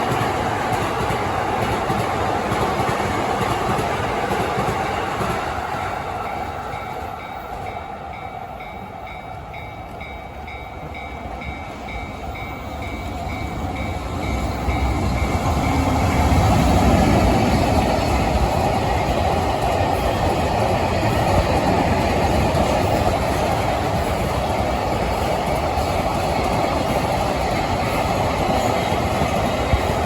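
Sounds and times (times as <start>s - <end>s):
electric train passing: 0.0s - 30.0s
crossing warning bell ringing: 5.5s - 30.0s.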